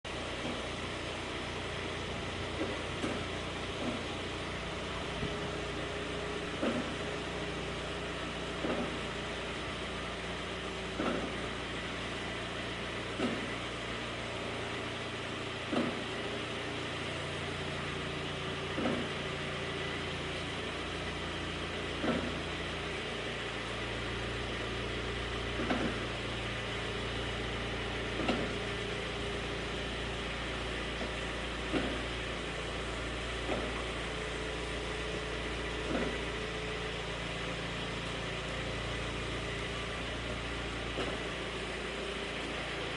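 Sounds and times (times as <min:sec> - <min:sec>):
car running hum: 0:00.0 - 0:42.9
brakes scraping: 0:00.1 - 0:42.9.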